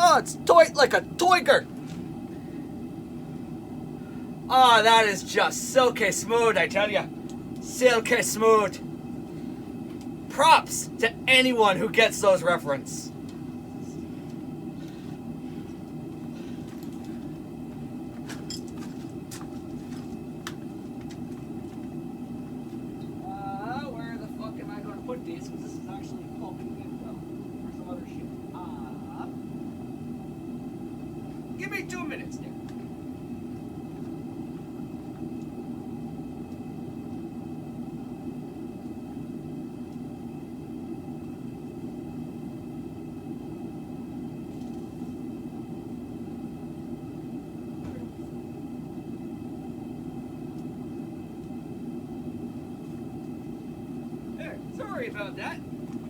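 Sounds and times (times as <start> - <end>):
forge burner roaring: 0.0 - 56.0.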